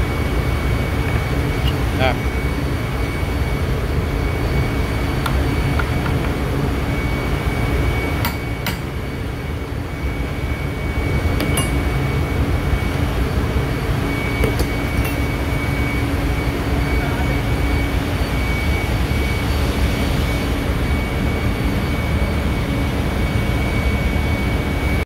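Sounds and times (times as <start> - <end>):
heavy machinery drone: 0.0 - 25.0
high whine: 0.0 - 25.0.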